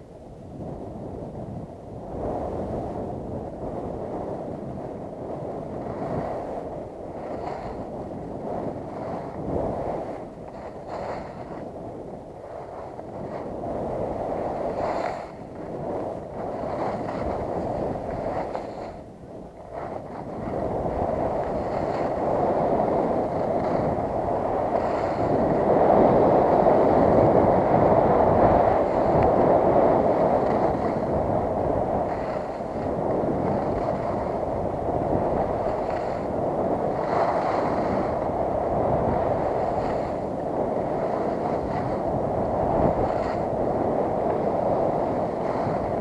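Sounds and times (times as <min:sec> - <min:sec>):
wind rushing over microphone: 0:00.0 - 0:46.0
skis scraping over snow: 0:07.2 - 0:11.8, 0:12.4 - 0:19.0, 0:19.6 - 0:46.0.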